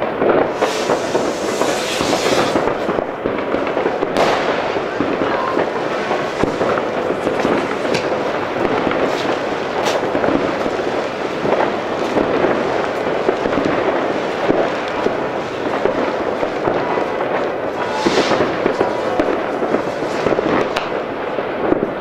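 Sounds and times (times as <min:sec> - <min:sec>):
fireworks crackling: 0:00.0 - 0:22.0
sharp firecracker cracks: 0:00.2 - 0:10.8, 0:11.4 - 0:22.0.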